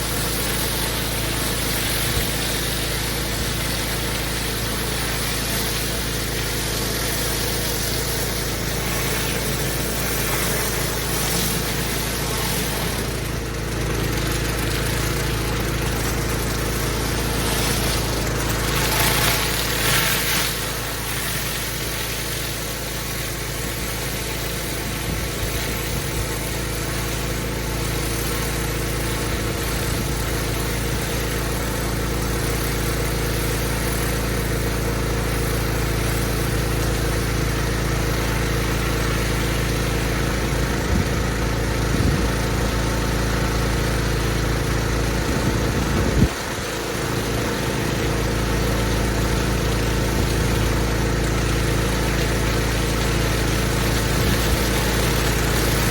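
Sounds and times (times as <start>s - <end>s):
pressure washer engine running: 0.0s - 55.9s.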